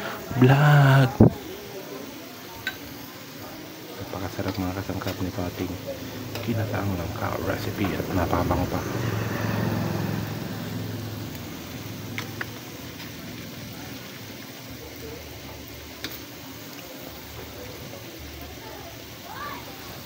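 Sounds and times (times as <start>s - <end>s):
stew simmering in a pan: 0.0s - 20.0s.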